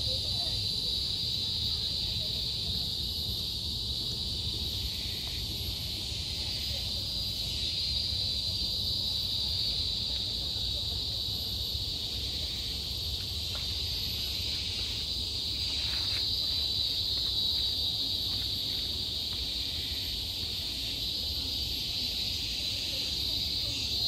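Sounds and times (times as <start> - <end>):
forest insects droning: 0.0 - 24.0.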